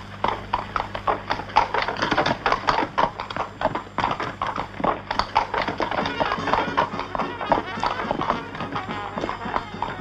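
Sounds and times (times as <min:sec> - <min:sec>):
horse hooves clip-clopping on street: 0:00.0 - 0:10.0.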